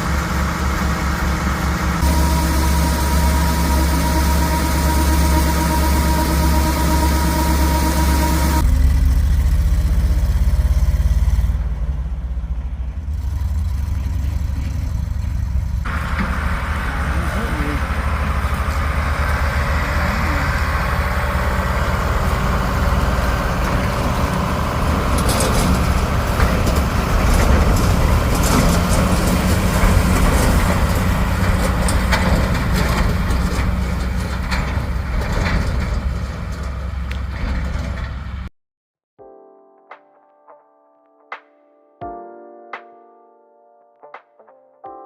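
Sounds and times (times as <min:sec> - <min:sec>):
heavy machinery engine droning: 0:00.0 - 0:38.5.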